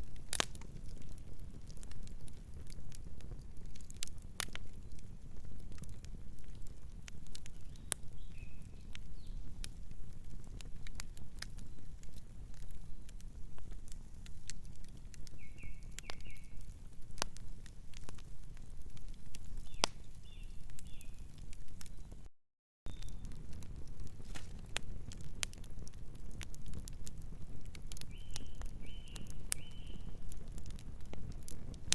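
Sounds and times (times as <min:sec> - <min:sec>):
wood fire crackling: 0:00.0 - 0:22.3, 0:22.9 - 0:31.9.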